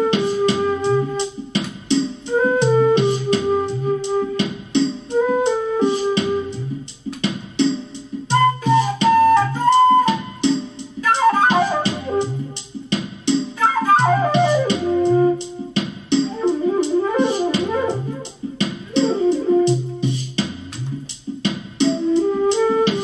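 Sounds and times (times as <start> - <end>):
flute playing a melody: 0.0 - 7.0, 8.3 - 12.8, 13.6 - 20.8, 21.8 - 23.0
backing track with drums and bass: 0.0 - 23.0.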